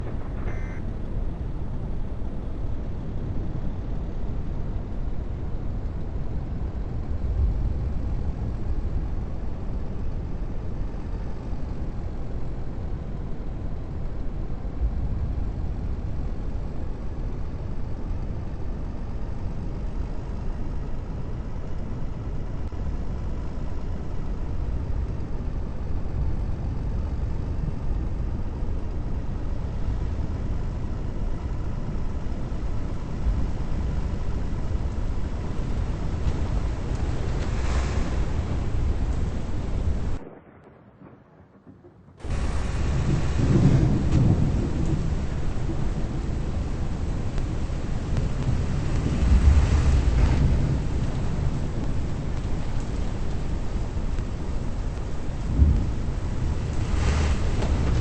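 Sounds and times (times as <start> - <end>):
vehicle engine and road noise: 0.0 - 40.2, 42.2 - 58.0.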